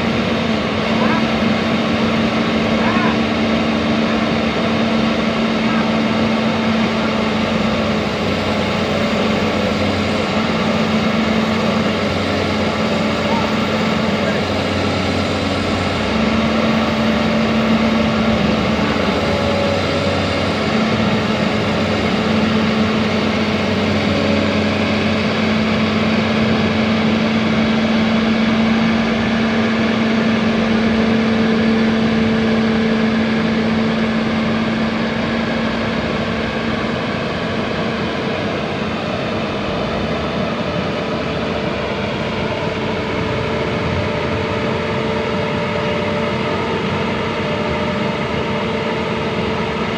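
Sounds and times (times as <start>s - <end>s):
constant whine: 0.0s - 49.9s
heavy diesel engine running: 0.0s - 49.9s.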